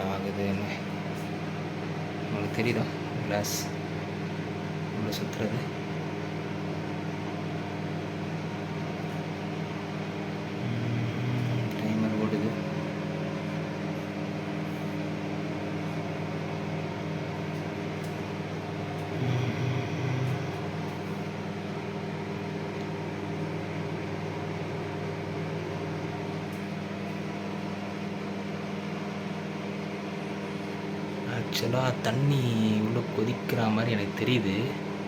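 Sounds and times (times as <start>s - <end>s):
microwave fan running: 0.0s - 35.0s
microwave oven humming: 0.0s - 35.0s.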